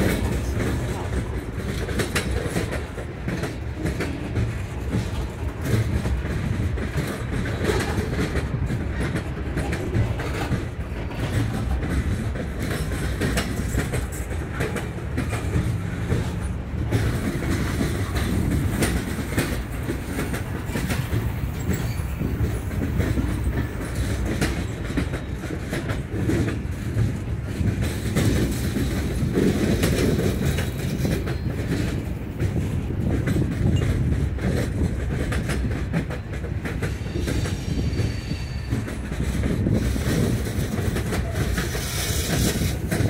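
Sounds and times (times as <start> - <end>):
freight train rumbling past: 0.0 - 43.0
wheels clacking over rail joints: 0.0 - 43.0.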